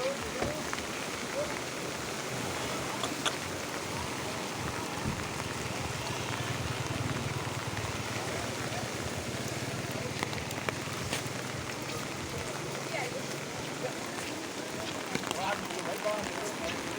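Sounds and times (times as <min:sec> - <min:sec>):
rushing water: 0:00.0 - 0:16.9.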